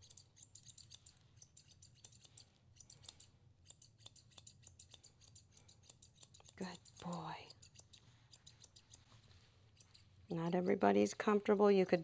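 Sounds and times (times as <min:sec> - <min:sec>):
grooming shears snipping: 0:00.0 - 0:12.0.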